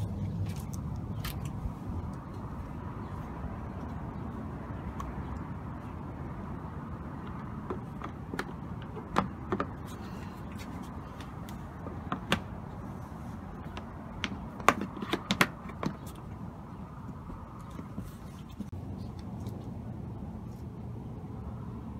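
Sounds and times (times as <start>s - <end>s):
steady background noise: 0.0s - 21.9s.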